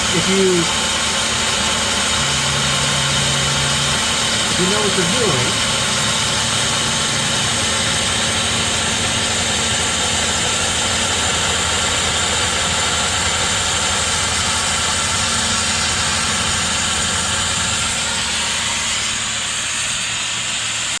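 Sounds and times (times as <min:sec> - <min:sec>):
milling machine spindle cutting: 0:00.0 - 0:21.0.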